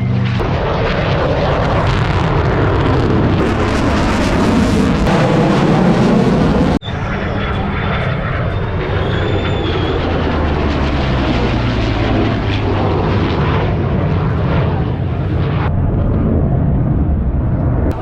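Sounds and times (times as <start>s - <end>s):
loud aircraft engine noise: 0.0s - 18.0s
low engine rumble: 0.0s - 18.0s.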